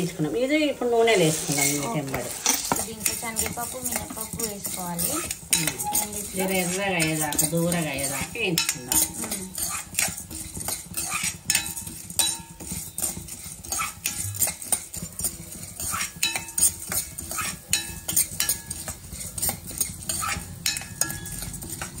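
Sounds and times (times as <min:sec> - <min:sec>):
metal spoon scraping a pan: 0:00.0 - 0:22.0.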